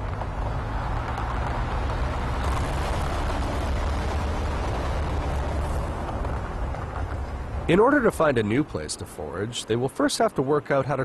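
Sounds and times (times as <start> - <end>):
minivan engine rumble: 0.0 - 10.8.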